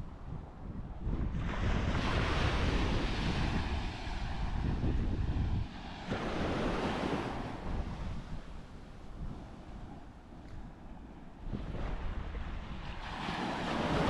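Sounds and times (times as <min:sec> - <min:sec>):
wind buffeting microphone: 0:00.0 - 0:14.0
sea waves breaking on beach: 0:01.3 - 0:14.0.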